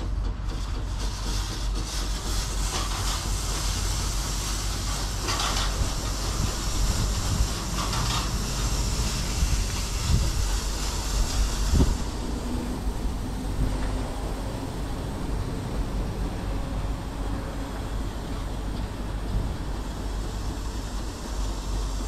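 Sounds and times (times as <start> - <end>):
car wash mechanical rumble: 0.0 - 22.0
spraying hiss: 0.5 - 22.0.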